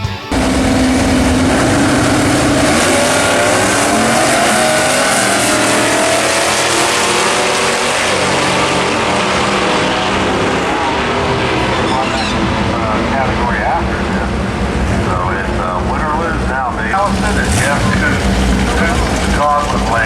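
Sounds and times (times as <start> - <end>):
racing car engine at high revs: 0.3 - 16.0, 16.9 - 20.0.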